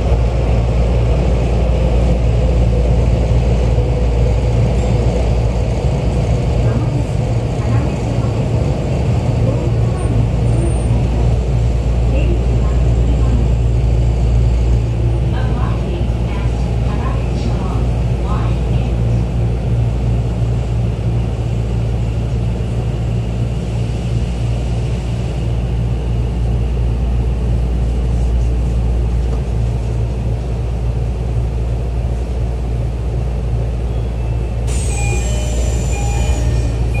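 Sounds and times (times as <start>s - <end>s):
subway train running rumble: 0.0s - 37.0s.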